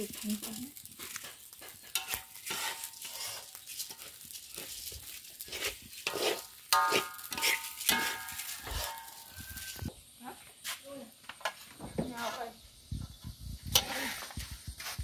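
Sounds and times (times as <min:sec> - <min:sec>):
spatula scraping rice in a wok: 0:00.0 - 0:09.9, 0:11.4 - 0:12.6, 0:13.7 - 0:15.0.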